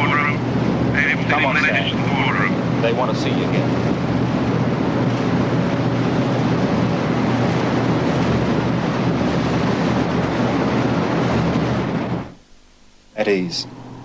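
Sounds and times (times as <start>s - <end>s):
water rushing: 0.0s - 12.4s
boat engines droning: 0.0s - 12.5s
wind: 0.0s - 14.0s.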